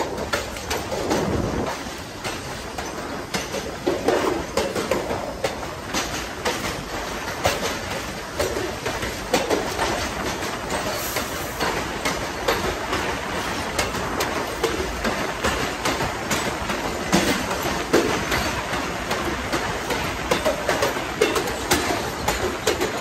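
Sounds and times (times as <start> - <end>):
train wheels rumbling on rail: 0.0 - 23.0
wheels clicking over rail joints: 0.0 - 23.0.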